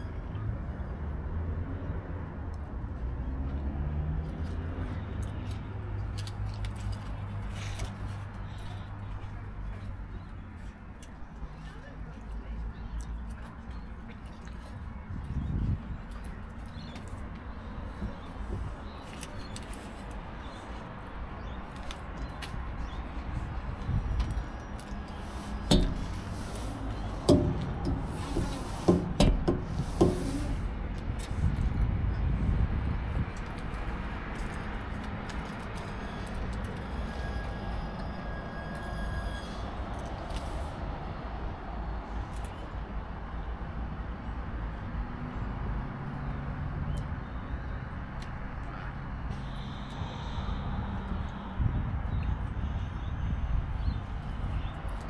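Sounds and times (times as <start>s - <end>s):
low rumble of traffic: 0.0s - 55.0s.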